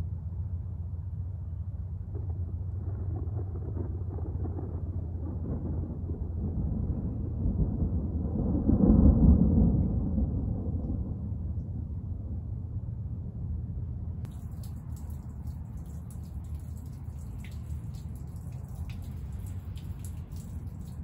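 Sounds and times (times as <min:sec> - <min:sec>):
thunder rumbling: 0:01.8 - 0:21.0.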